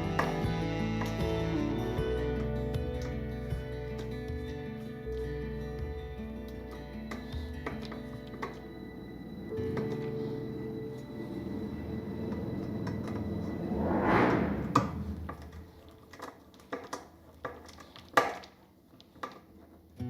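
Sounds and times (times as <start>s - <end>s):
background music: 0.0s - 17.1s.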